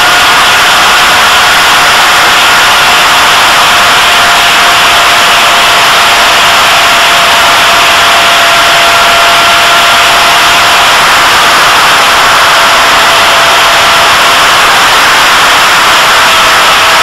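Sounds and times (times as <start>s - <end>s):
model plane motor whine: 0.0s - 17.0s
rush of air noise: 0.0s - 17.0s.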